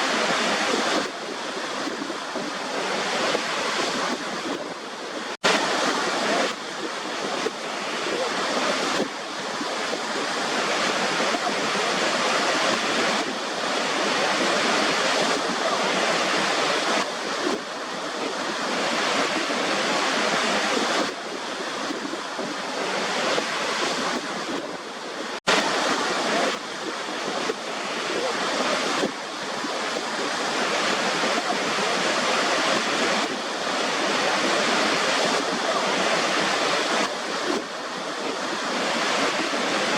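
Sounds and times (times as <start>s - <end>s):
rushing surf: 0.0s - 39.9s.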